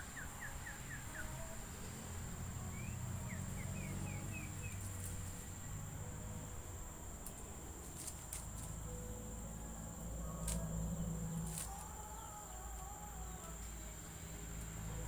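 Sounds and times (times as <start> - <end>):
faint wavering bird notes: 0.0 - 7.7, 8.6 - 15.0
high-pitched insect drone: 0.0 - 15.0.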